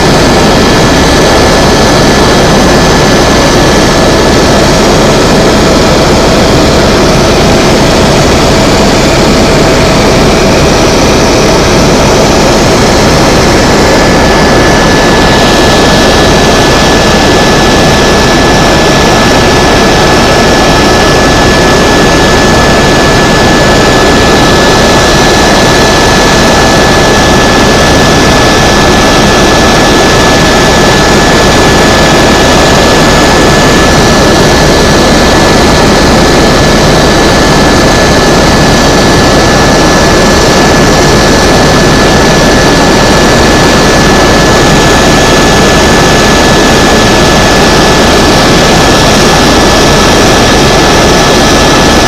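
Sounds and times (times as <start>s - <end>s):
helicopter engine and rotor noise: 0.0s - 52.0s
thin high whine: 0.0s - 52.0s.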